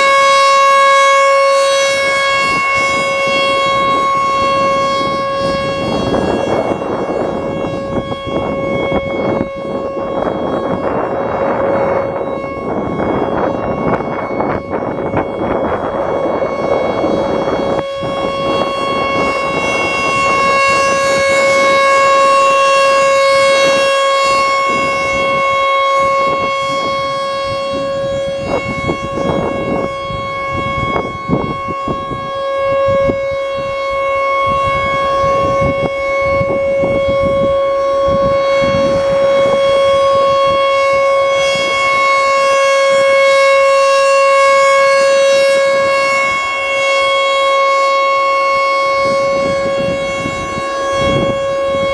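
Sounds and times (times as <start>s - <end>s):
rotating warning siren: 0.0s - 51.9s.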